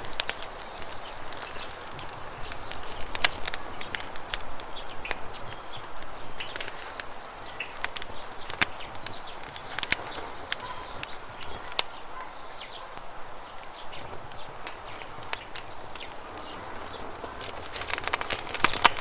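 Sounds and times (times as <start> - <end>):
birds chirping: 0.0 - 19.0
campfire crackling: 0.0 - 19.0.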